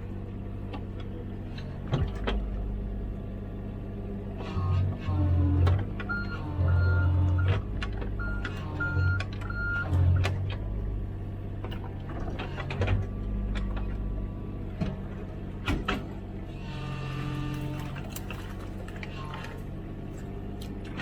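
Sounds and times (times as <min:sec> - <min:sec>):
hydraulics working under load: 0:00.0 - 0:21.0
mini excavator engine running: 0:00.0 - 0:21.0.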